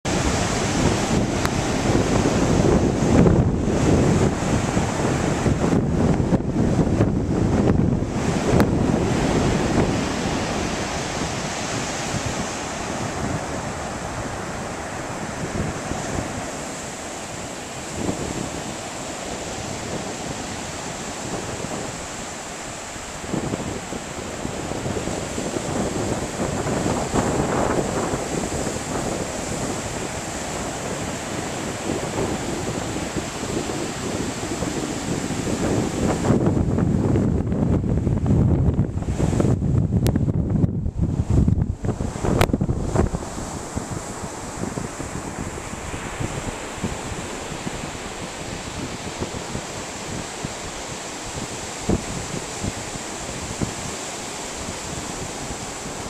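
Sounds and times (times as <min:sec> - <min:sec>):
wind on microphone: 0:00.0 - 0:56.0
surf breaking on beach: 0:00.1 - 0:56.0.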